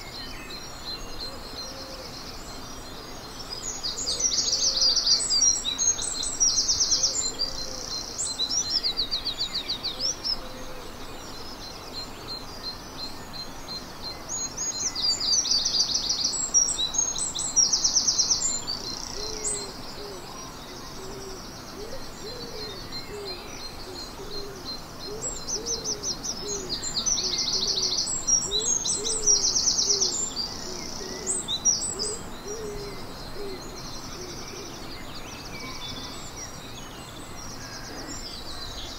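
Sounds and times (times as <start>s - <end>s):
chorus of birds: 0.0s - 38.9s.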